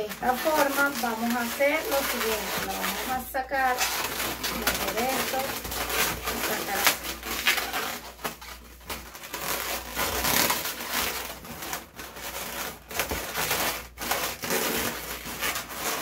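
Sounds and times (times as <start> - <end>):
balloon latex crinkling scrape: 0.0 - 16.0.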